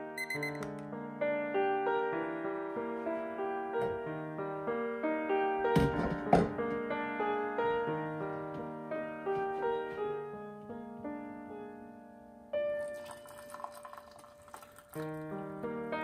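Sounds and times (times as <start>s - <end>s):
soft solo piano music: 0.0s - 16.0s.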